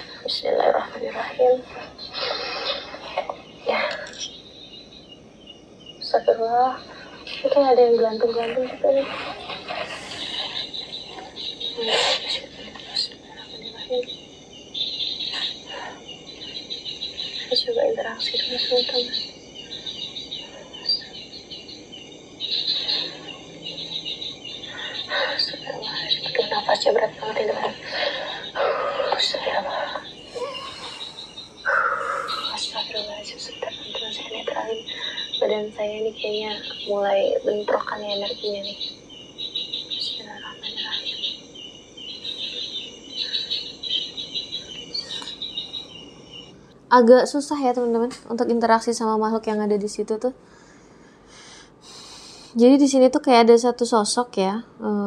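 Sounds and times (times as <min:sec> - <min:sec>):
insects chirping quickly: 0:00.0 - 0:50.3, 0:51.2 - 0:53.1
steady high-pitched insect trill: 0:00.0 - 0:55.0.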